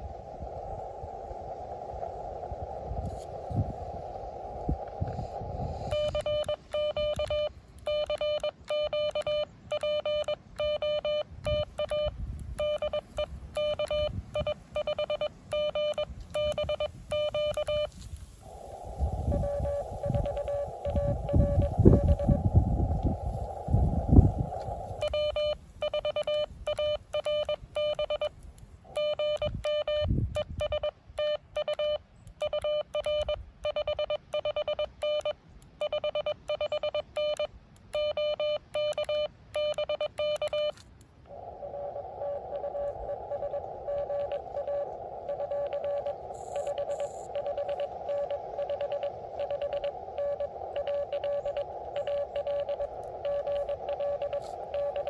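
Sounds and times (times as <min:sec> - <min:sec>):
filtered radio hiss: 0:00.0 - 0:55.0
faint morse code: 0:03.0 - 0:55.0
morse code keyed tone: 0:05.1 - 0:18.1, 0:18.9 - 0:40.8, 0:42.2 - 0:55.0.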